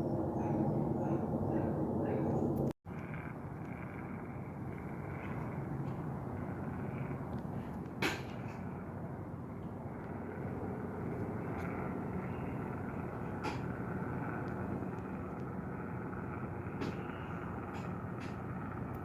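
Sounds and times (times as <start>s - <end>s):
airplane passing overhead: 0.0s - 19.0s.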